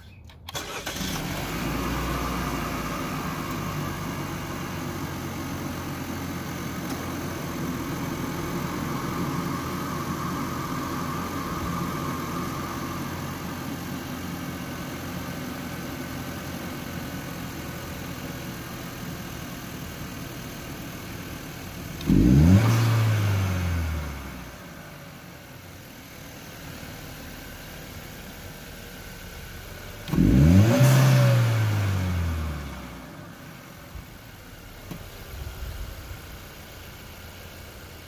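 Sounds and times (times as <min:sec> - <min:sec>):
car engine starting and idling: 0:00.0 - 0:38.0.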